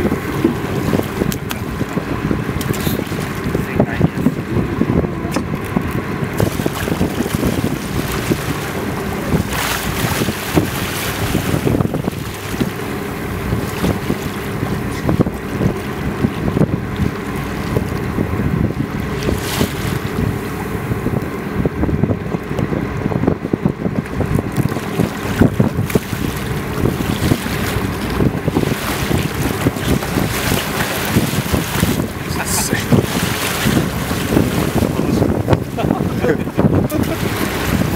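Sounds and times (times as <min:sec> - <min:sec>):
boat engine hum: 0:00.0 - 0:37.9
water sloshing at hull: 0:00.0 - 0:37.9
wind buffeting microphone: 0:00.0 - 0:37.9.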